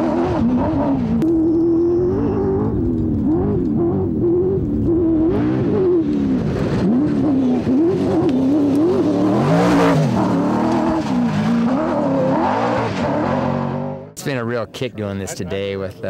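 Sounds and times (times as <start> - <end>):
race engine at full throttle: 0.0 - 14.2.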